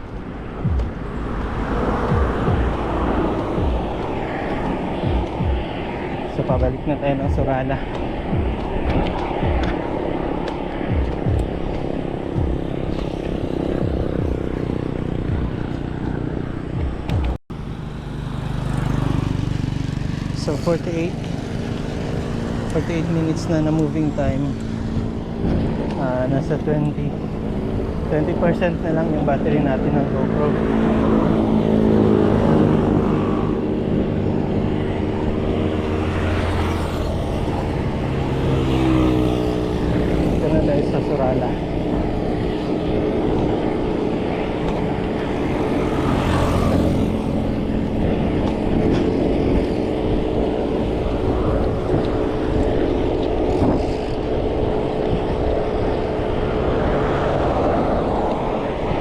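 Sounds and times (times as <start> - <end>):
wind buffeting microphone: 0.0 - 17.8, 18.5 - 59.0
low engine hum: 0.0 - 59.0.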